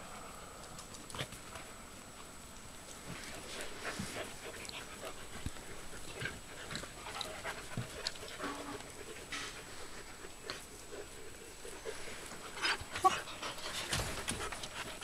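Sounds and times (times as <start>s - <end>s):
puppies scuffling: 2.8s - 15.0s.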